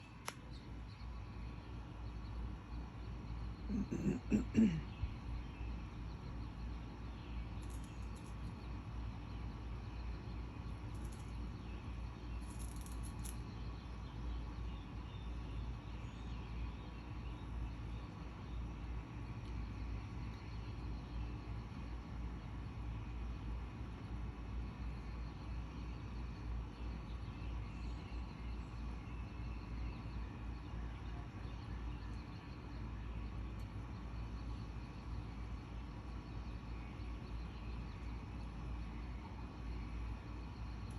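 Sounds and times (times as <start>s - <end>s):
low rumble and hiss: 0.0s - 40.9s.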